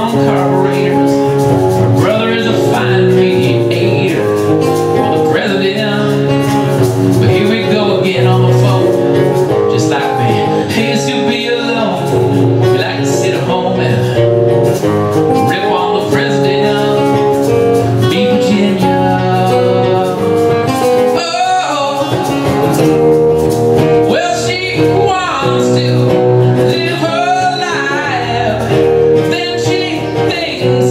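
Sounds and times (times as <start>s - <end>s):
acoustic guitars: 0.0s - 30.9s
man singing: 0.0s - 30.9s.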